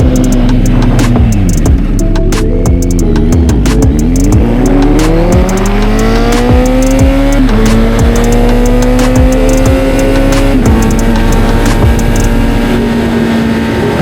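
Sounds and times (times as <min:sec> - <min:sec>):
motorcycle engine revving: 0:00.0 - 0:14.0
music: 0:00.0 - 0:14.0.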